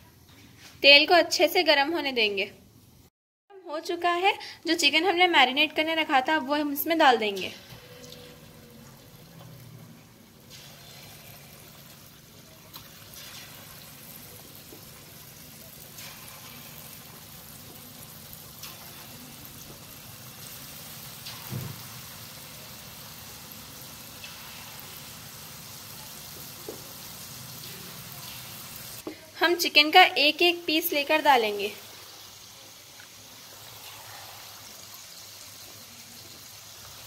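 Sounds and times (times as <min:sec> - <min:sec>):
chicken deep-frying in oil: 0:04.8 - 0:37.0.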